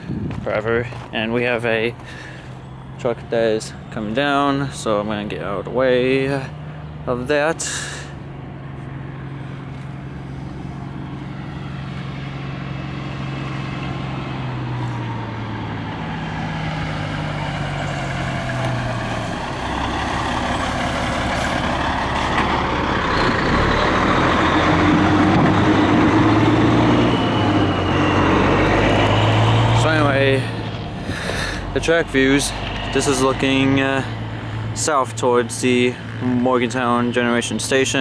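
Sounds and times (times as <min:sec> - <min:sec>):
truck engine approaching: 0:00.0 - 0:38.0.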